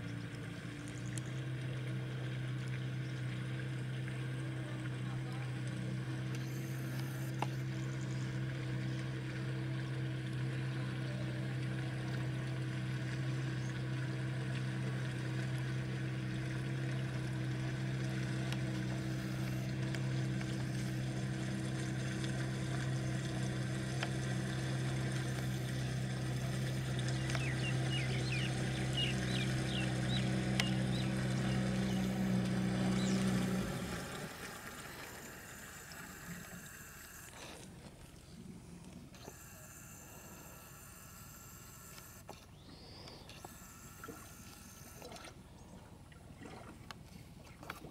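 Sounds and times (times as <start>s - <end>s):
outboard motor humming: 0.0s - 47.9s.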